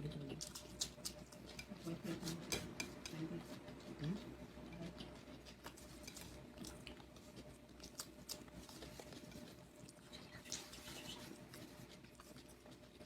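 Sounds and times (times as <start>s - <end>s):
faint chewing with clicks: 0.0s - 13.0s.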